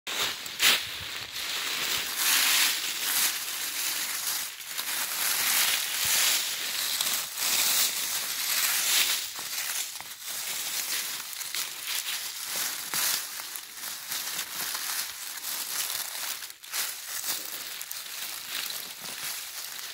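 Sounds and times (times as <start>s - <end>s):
dry leaves rustling and crunching: 0.1s - 19.9s.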